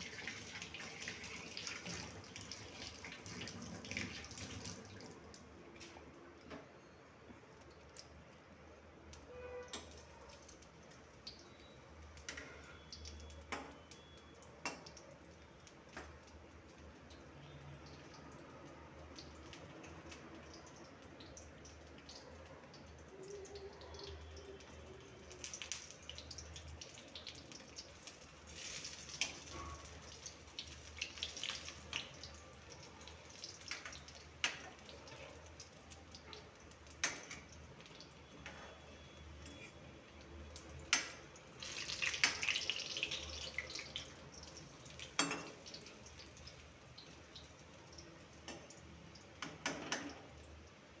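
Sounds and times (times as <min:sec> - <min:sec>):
dumplings sizzling in hot oil: 0:00.0 - 0:06.0, 0:07.5 - 0:51.0
oil crackles and pops: 0:07.5 - 0:08.4, 0:09.0 - 0:51.0.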